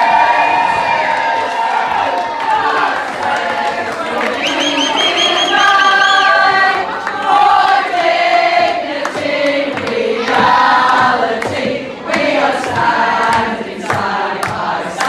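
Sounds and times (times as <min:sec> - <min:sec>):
group of voices singing: 0:01.8 - 0:15.0.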